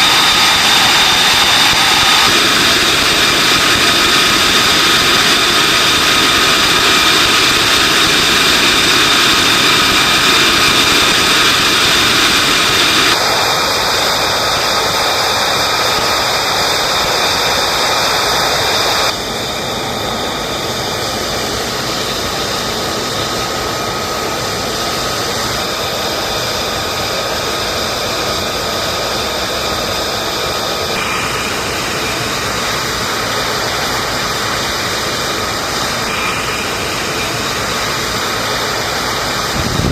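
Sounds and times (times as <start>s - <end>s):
high-pitched engine whine: 0.0s - 39.9s
jet engines roaring: 0.0s - 39.9s.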